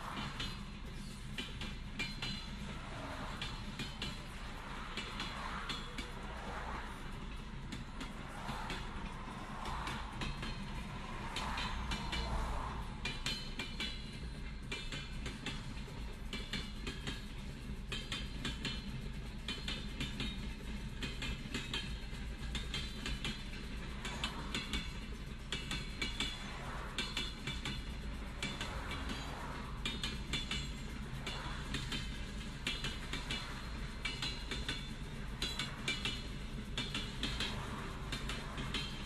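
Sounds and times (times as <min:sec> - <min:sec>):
freight train rolling past: 0:00.0 - 0:39.0
wheels clattering on rails: 0:00.0 - 0:39.0.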